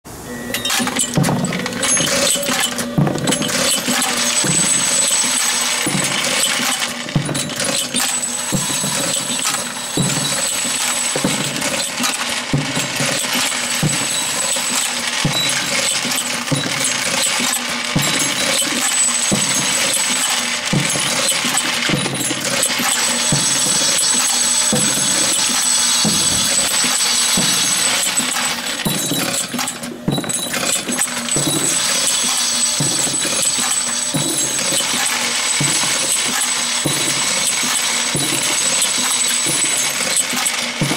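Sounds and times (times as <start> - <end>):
machine rhythmic clunk: 0.1 - 40.9
brass cases clinking: 0.5 - 40.9.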